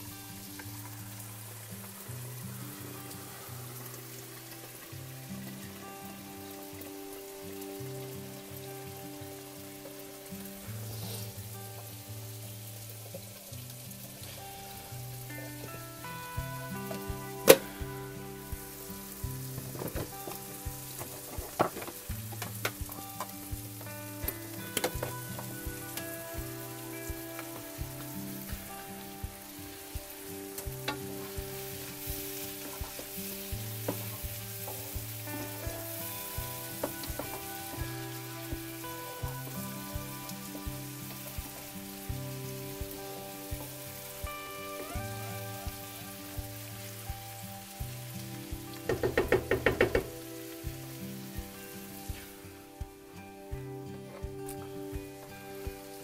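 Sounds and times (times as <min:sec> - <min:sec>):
light background music: 0:00.0 - 0:56.0
vegetables sizzling in oil: 0:00.0 - 0:56.0.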